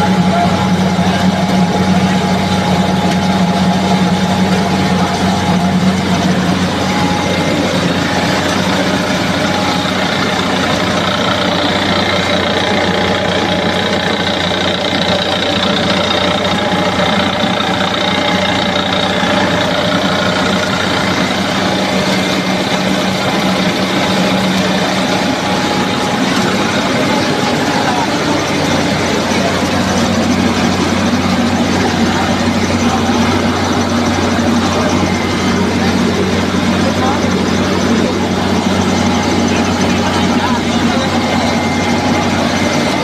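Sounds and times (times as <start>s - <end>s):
rice milling machine drone: 0.0s - 43.0s.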